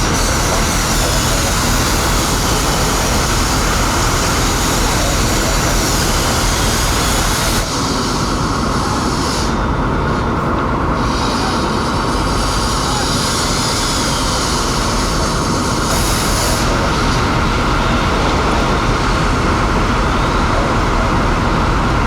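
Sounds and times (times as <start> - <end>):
hiss: 0.0 - 10.2, 11.0 - 21.9
engine and machinery rumble: 0.0 - 22.0.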